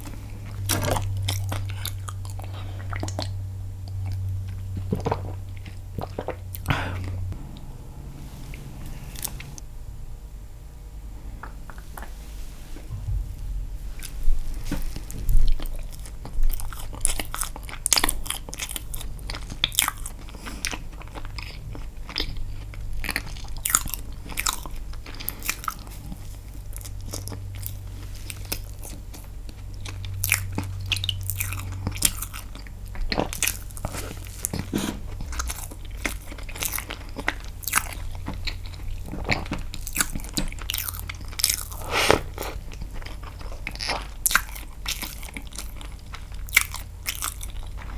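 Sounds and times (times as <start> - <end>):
person chewing with wet smacks: 0.0 - 7.4, 14.0 - 47.9.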